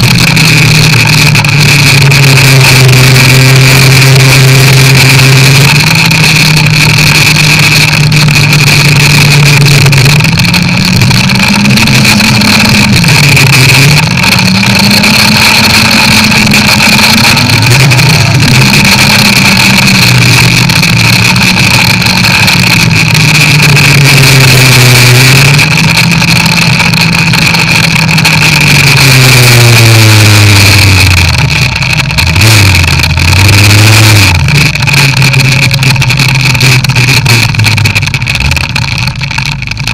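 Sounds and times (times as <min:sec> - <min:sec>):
snowmobile engine revving: 0:00.0 - 0:39.9
steady high whine: 0:00.0 - 0:39.9.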